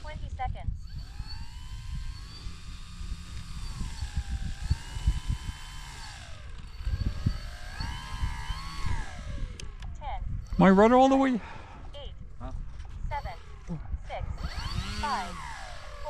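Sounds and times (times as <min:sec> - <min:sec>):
electric motor and propeller whining: 0:00.0 - 0:16.0
wind buffeting microphone: 0:00.0 - 0:16.0.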